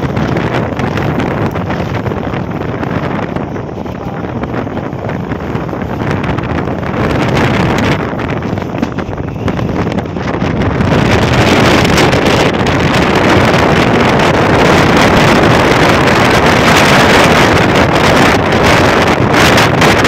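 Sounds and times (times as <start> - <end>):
train wheels rumbling on rails: 0.0 - 20.0
wind buffeting microphone: 0.0 - 20.0.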